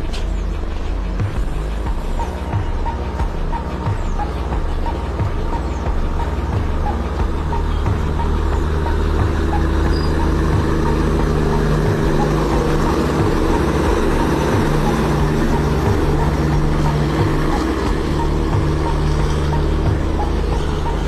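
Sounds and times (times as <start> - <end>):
diesel generator droning: 0.0 - 21.0
faint regular ticking: 0.0 - 21.0.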